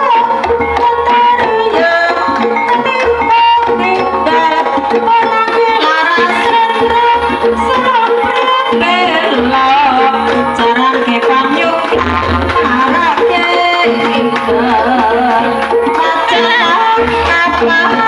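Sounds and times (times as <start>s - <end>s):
loud folk music with hand drums: 0.0s - 18.0s.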